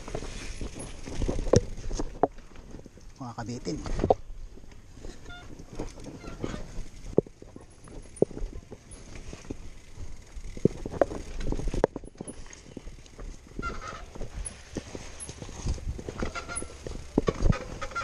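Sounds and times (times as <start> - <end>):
bike frame knocking and rattling: 0.0 - 18.0.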